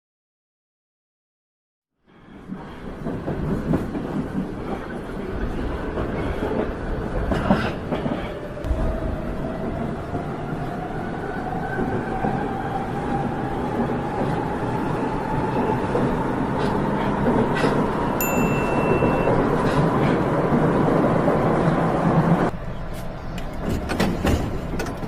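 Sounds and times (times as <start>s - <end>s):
subway train rumbling: 2.0s - 25.0s.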